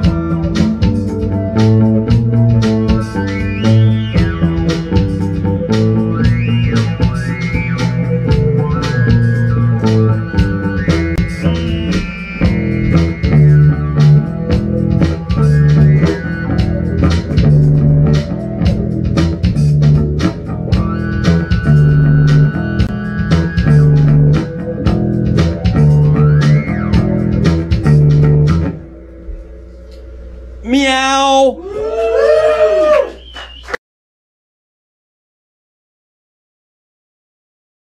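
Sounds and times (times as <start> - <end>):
synth keyboard chords: 0.0 - 31.0
bass guitar riff: 0.0 - 31.7
steady beat: 0.0 - 32.0.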